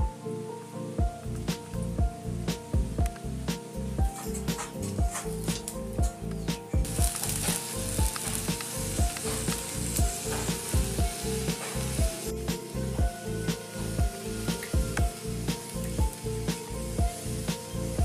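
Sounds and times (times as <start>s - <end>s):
background music with steady beat: 0.0s - 18.0s
gourds sizzling on embers: 0.0s - 18.0s.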